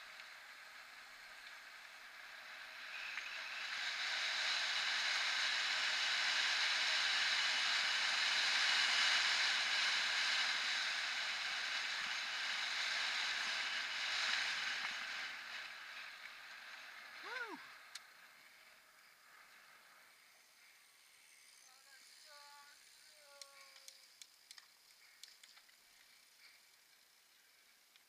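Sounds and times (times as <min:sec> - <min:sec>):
bike tyres hissing on concrete: 0:00.0 - 0:28.0.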